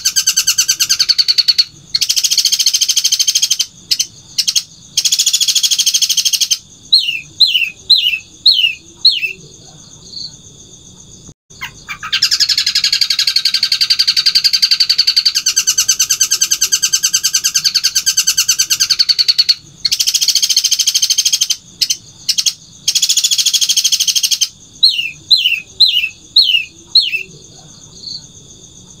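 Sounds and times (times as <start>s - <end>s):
fast rattling bird trill: 0.0s - 9.4s, 11.5s - 27.4s
bird singing harsh chattering: 0.0s - 10.4s, 11.0s - 28.4s.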